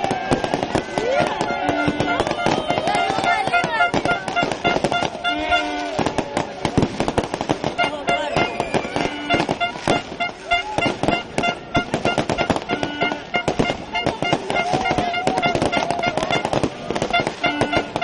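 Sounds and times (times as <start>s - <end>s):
crowd voices: 0.0s - 18.0s
fireworks banging and crackling: 0.0s - 18.0s
short horn-like tones: 0.8s - 6.1s, 7.6s - 18.0s.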